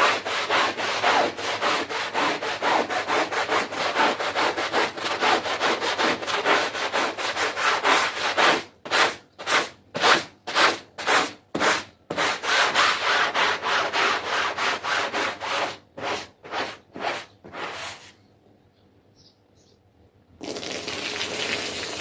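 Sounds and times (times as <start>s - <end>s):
brush scrubbing carpet: 0.0s - 18.1s.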